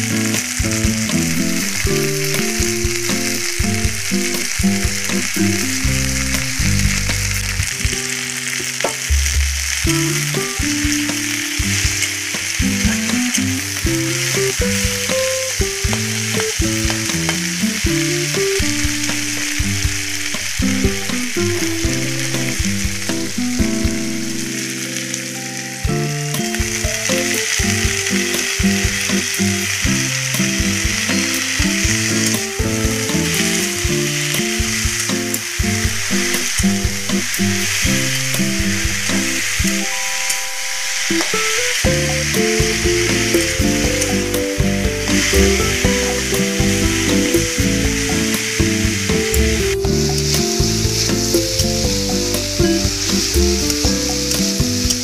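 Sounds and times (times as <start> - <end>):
leaves sizzling in hot oil: 0.0 - 55.0.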